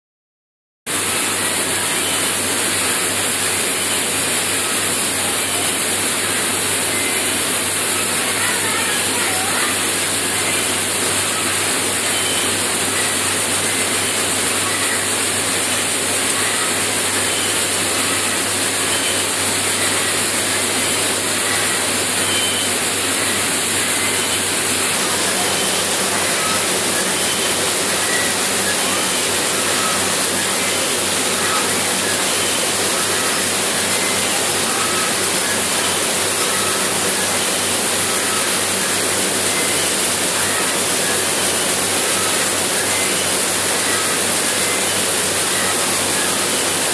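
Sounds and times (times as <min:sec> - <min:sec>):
machinery rushing noise: 0:00.9 - 0:46.9.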